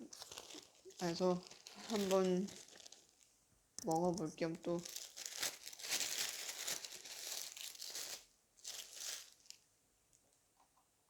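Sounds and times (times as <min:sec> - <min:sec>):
food packaging crinkling: 0:00.0 - 0:09.6.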